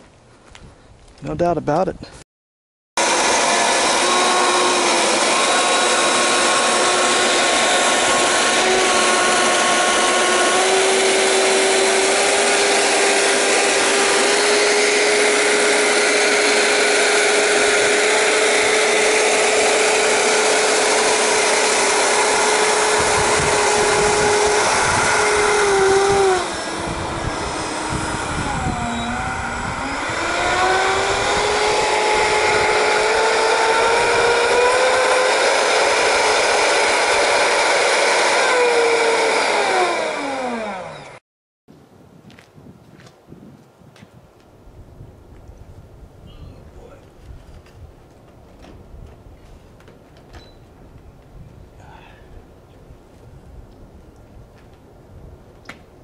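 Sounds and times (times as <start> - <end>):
electric ducted fans whining: 3.0 - 41.2, 42.9 - 56.0.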